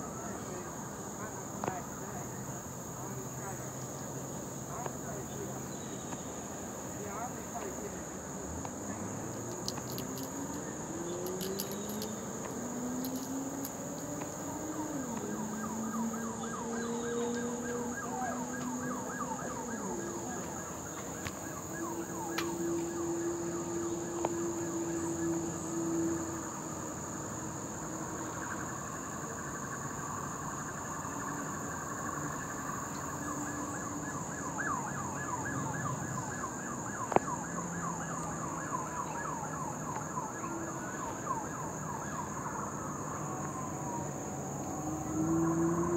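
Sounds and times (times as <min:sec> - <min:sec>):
distant siren wailing: 0:00.0 - 0:45.9
insects chirping: 0:00.0 - 0:45.9.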